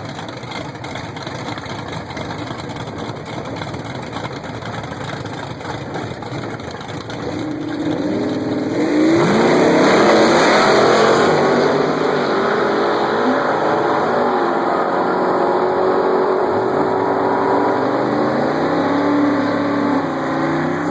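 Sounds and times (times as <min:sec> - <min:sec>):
drag racing engine accelerating: 0:00.8 - 0:20.9.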